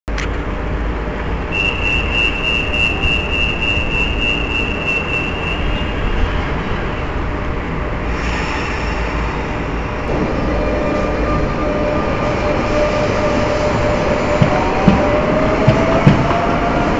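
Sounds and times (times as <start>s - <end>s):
train rumbling on rails: 0.1s - 16.9s.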